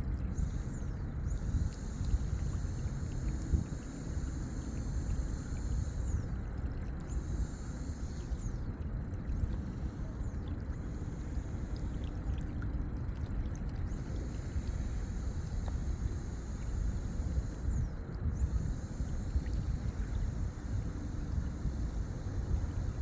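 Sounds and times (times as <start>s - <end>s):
faint high whine: 0.0s - 23.0s
low rumbling outdoor ambience: 0.0s - 23.0s.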